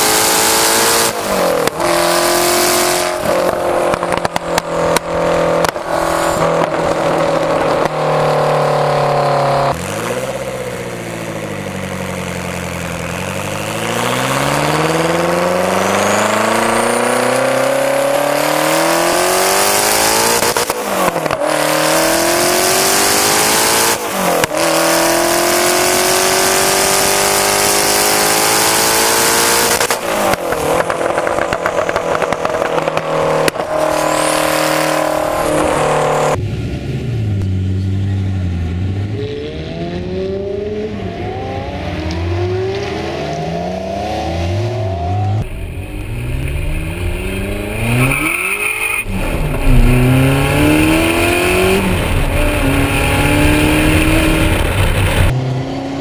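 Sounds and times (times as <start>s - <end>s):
loud car engine revving: 0.0s - 56.0s.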